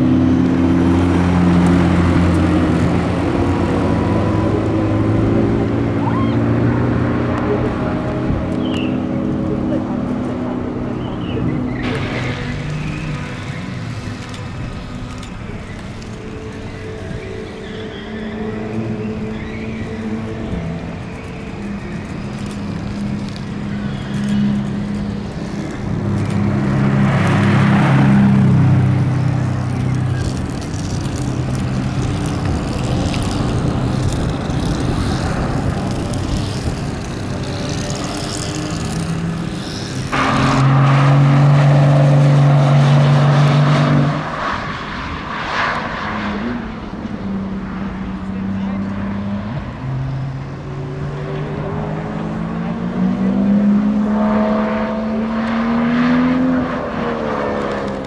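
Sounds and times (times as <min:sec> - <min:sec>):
car engines running and revving: 0:00.0 - 0:58.0.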